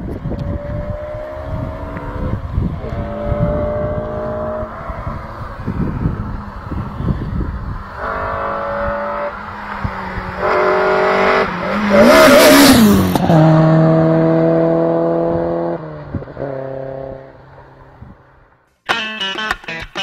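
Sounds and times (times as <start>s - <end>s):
car engine revving: 0.3s - 17.9s
car driving past: 0.7s - 18.4s.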